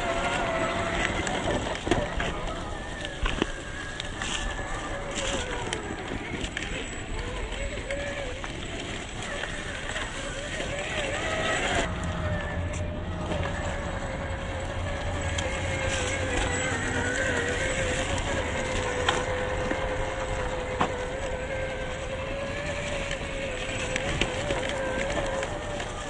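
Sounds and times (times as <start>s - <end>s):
rc car motor whining: 0.0s - 26.0s
tyres rumbling on dirt: 0.0s - 26.0s.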